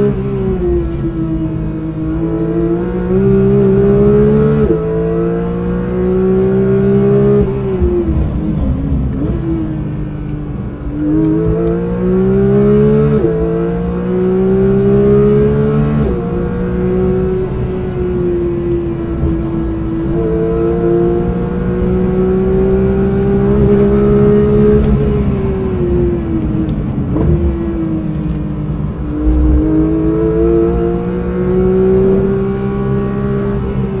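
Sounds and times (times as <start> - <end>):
car engine accelerating hard: 0.0 - 34.0.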